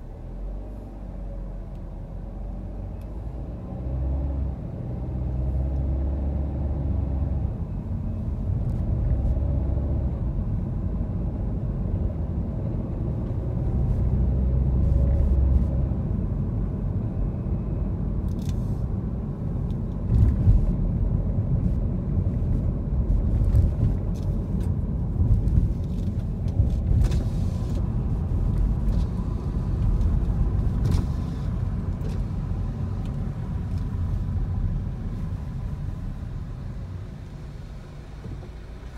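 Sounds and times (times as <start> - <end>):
car engine hum: 0.0 - 38.9
road rumble: 0.0 - 38.9.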